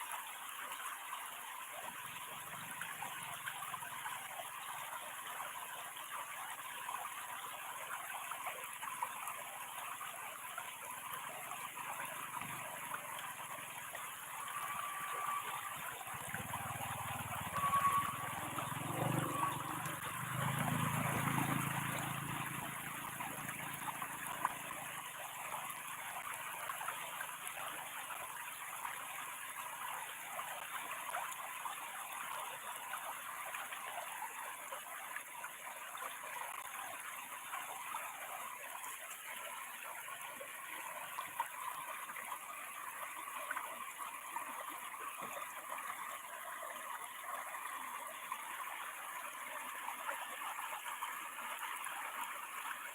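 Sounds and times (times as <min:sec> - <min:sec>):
water flowing over a weir: 0:00.0 - 0:52.9.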